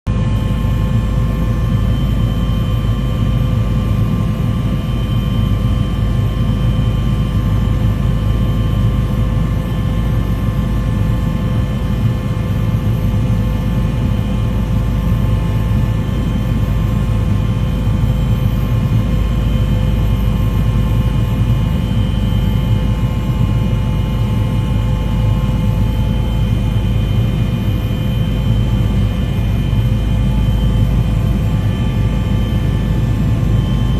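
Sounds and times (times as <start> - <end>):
aircraft engine drone: 0.1 - 33.9.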